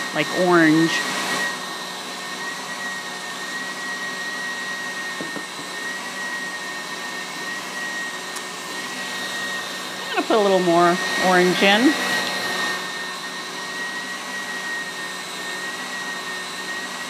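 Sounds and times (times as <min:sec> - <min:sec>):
stand mixer whining and whirring: 0:00.0 - 0:17.0.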